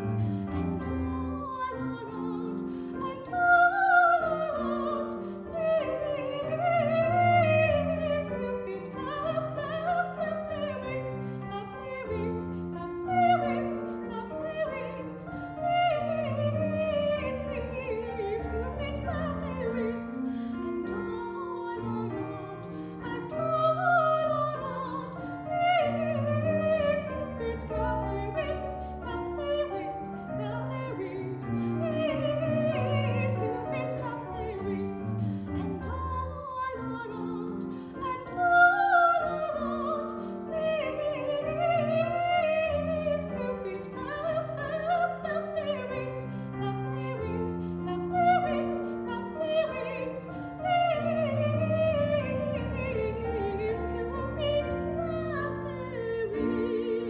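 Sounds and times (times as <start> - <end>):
woman singing operatic melody: 0.0 - 57.0.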